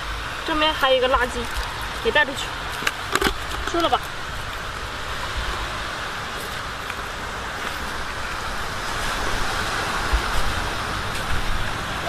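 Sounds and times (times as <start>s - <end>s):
sea waves on beach: 0.0s - 12.0s
wind buffeting microphone: 0.0s - 12.0s.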